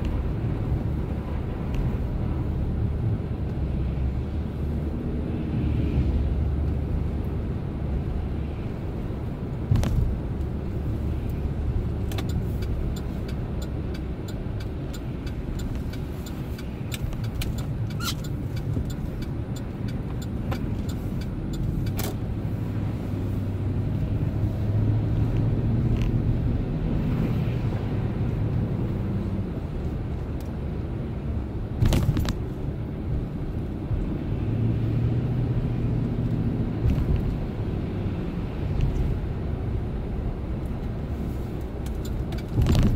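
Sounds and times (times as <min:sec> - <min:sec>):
pickup truck engine and road rumble: 0:00.0 - 0:42.9.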